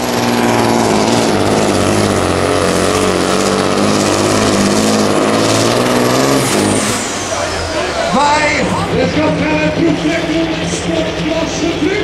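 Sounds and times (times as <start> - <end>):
truck diesel engine under load: 0.0 - 12.0.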